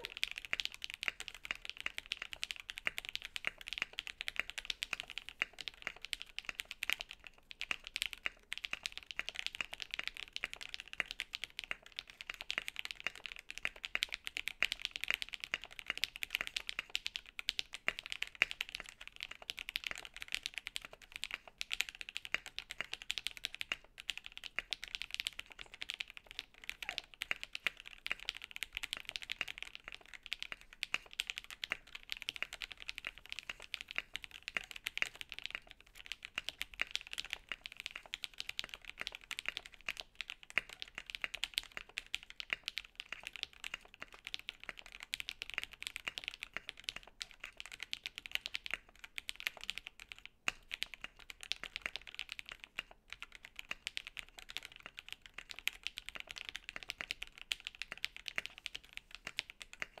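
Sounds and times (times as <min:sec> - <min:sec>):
mechanical keyboard typing: 0:00.0 - 1:00.0.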